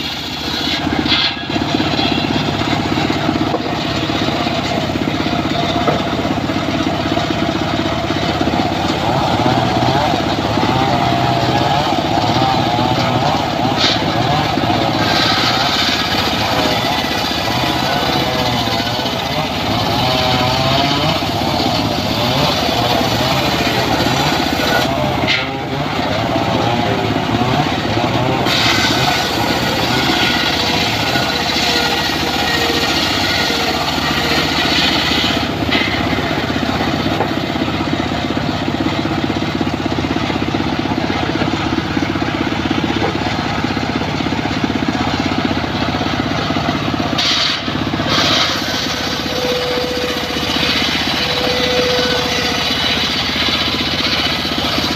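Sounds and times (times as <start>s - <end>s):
circular saw cutting wood: 0.0s - 54.9s.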